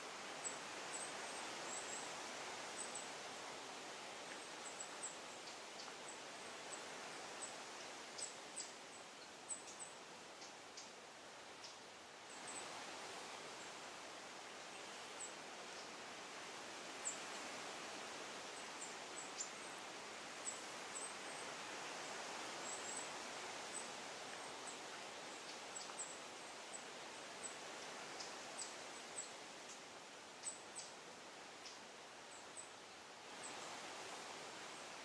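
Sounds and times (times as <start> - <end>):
forest ambience hiss: 0.0 - 35.0.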